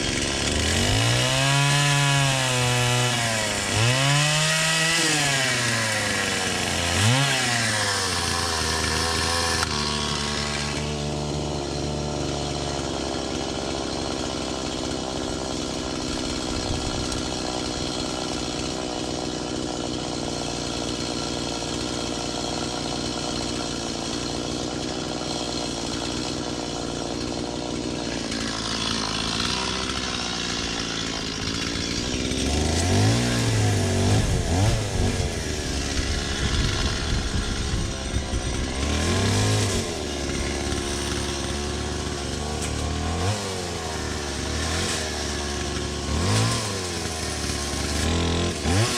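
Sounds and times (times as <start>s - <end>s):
chainsaw engine revving: 0.0s - 48.9s.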